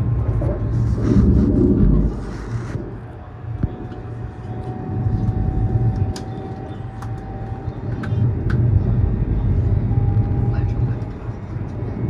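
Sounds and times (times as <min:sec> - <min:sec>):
train rumble at speed: 0:00.0 - 0:12.0.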